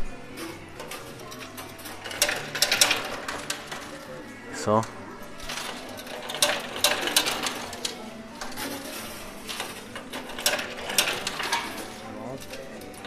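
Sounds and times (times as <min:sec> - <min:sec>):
mechanical hum of machine: 0:00.0 - 0:13.0
coins clinking: 0:00.3 - 0:04.0, 0:05.3 - 0:13.0.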